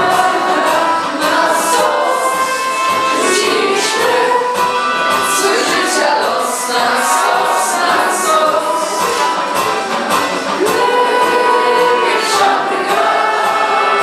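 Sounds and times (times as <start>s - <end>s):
group of young voices singing: 0.0s - 14.0s.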